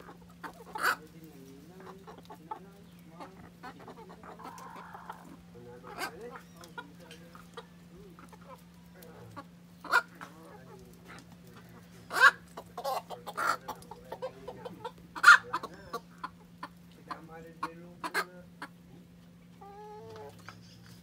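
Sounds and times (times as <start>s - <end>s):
chickens clucking: 0.0s - 21.0s
steady low hum: 0.0s - 21.0s.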